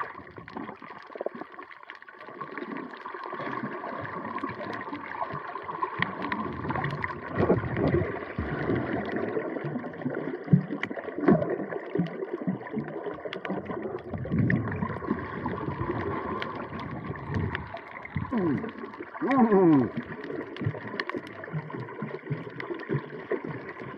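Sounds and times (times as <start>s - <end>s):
water sloshing and gurgling: 0.0s - 23.9s.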